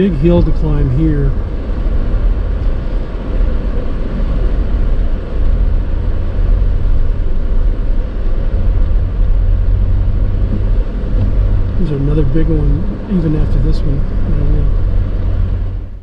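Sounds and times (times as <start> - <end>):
vehicle engine rumbling under load: 0.0 - 16.0.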